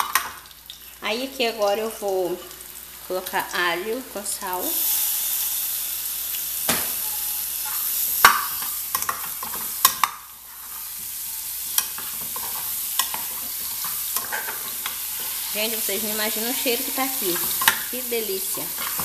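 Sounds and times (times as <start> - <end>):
oil sizzling in a pot: 0.0 - 19.0.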